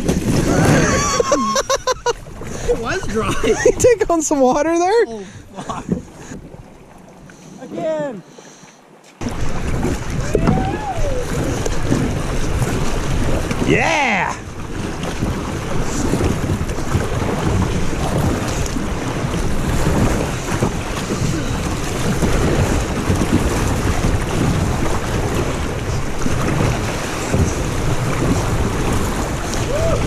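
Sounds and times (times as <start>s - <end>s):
wind buffeting microphone: 0.0s - 8.2s, 9.2s - 30.0s
river rapids splashing on kayak: 0.0s - 30.0s.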